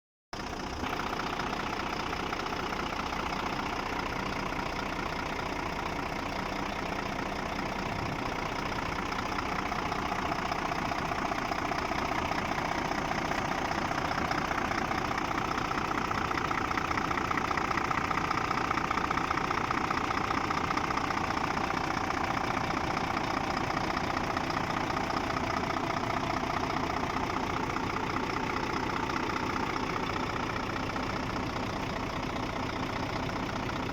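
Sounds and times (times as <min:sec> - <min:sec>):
diesel truck engine idling: 0:00.4 - 0:33.9.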